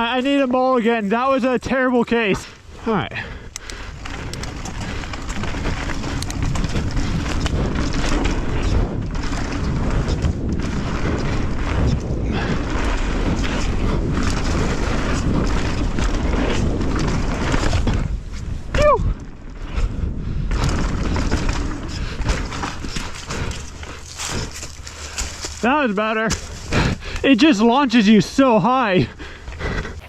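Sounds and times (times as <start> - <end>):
bike knocking and rattling: 0.0 - 30.0
tyres rolling over dirt trail: 0.0 - 30.0
wind buffeting microphone: 1.7 - 30.0.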